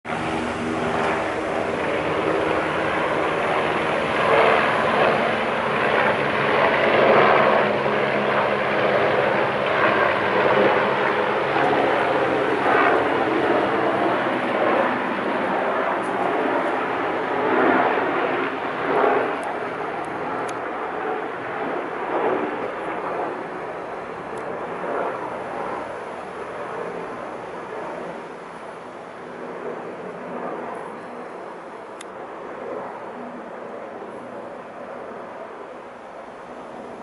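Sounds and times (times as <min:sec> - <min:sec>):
helicopters droning: 0:00.1 - 0:37.0.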